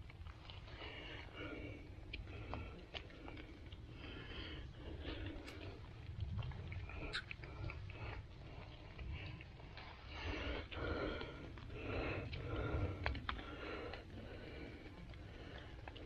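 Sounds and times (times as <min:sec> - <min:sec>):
low microphone rumble: 0:00.0 - 0:16.0.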